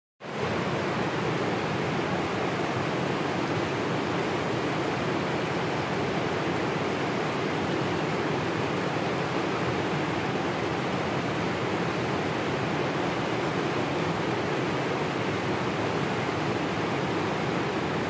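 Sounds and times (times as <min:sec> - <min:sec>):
river water pouring over weir: 0:00.2 - 0:18.0.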